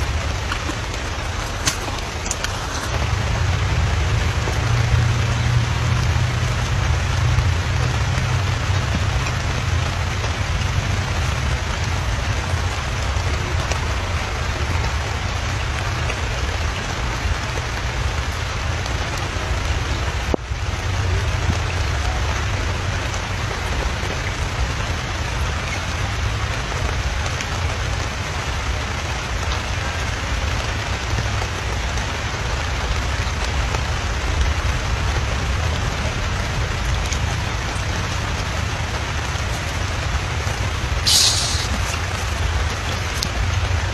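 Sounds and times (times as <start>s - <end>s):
rain falling on grass and puddle: 0.0s - 43.9s.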